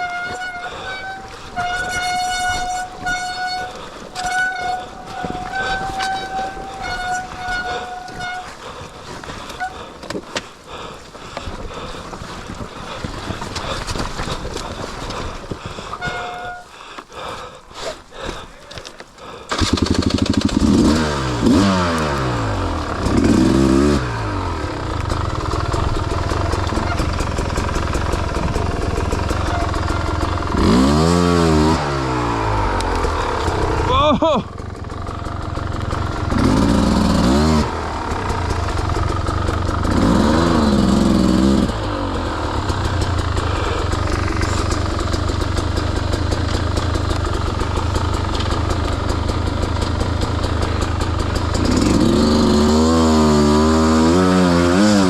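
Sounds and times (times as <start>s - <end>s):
dirt bike engine revving: 0.0s - 9.9s, 19.5s - 55.0s.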